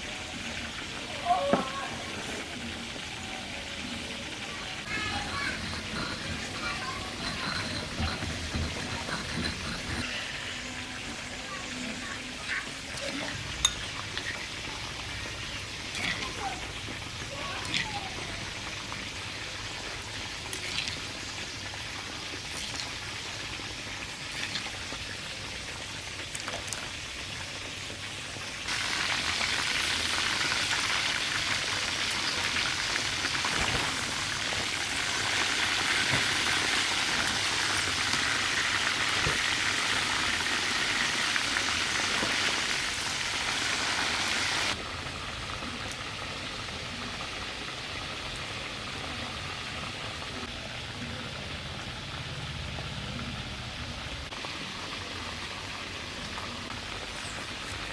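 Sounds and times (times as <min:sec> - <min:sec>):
chicken sizzling in a pan: 0:00.0 - 0:53.4.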